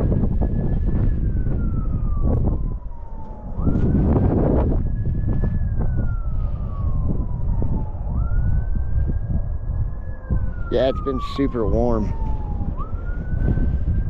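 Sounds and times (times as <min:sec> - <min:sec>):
distant siren wailing: 0:00.0 - 0:14.0
wind rumble on microphone: 0:00.0 - 0:14.0.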